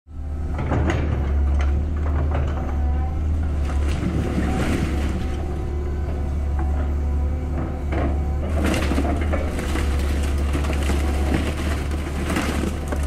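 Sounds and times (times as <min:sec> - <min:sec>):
backhoe engine rumbling: 0:00.1 - 0:13.0
debris clattering and scraping: 0:00.6 - 0:06.9, 0:07.5 - 0:13.0.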